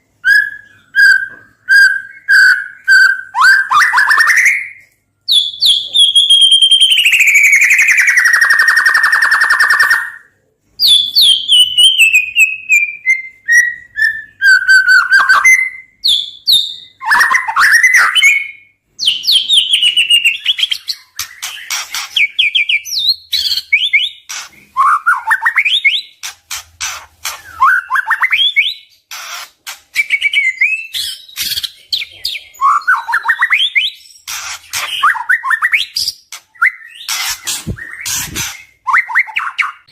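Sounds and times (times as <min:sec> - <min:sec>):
bird singing whistles: 0:00.2 - 0:26.1, 0:30.0 - 0:31.8, 0:32.6 - 0:39.9.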